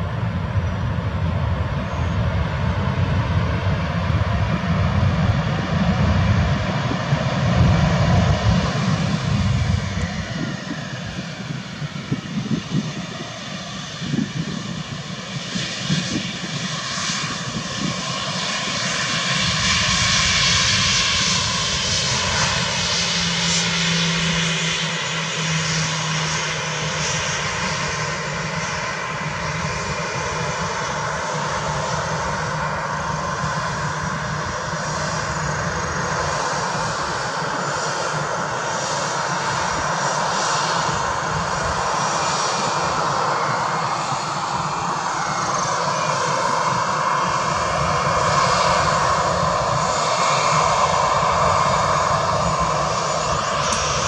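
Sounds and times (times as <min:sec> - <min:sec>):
jet engines whining and roaring: 0:00.0 - 0:54.0.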